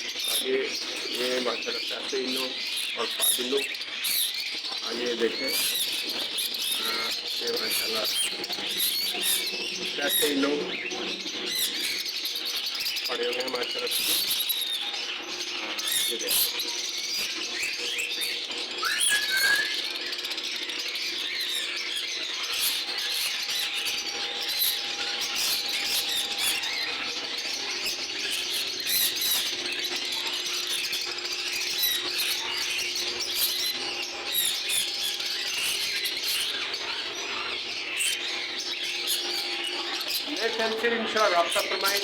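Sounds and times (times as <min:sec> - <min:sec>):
lovebirds chattering and squawking: 0:00.0 - 0:42.0.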